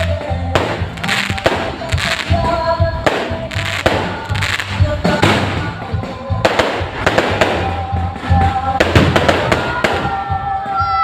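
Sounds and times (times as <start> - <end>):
fireworks bangs and crackles: 0.0 - 11.0
music: 0.0 - 11.0.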